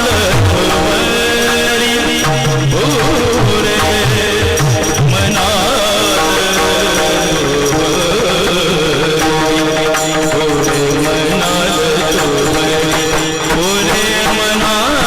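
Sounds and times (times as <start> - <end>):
steady drone: 0.0 - 13.6
ornamented sung melody: 0.0 - 15.0
percussion strokes: 0.0 - 15.0.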